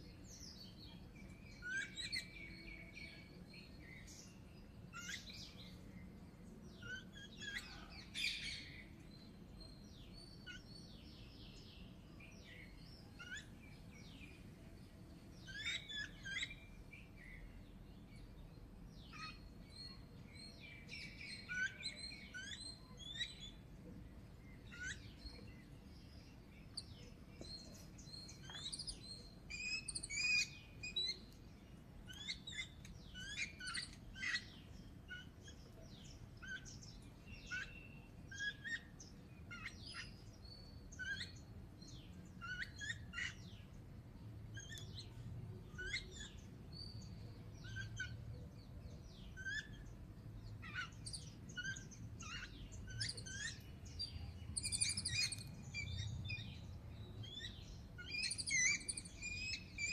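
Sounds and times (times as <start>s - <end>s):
birds chirping in a group: 0.0s - 59.9s.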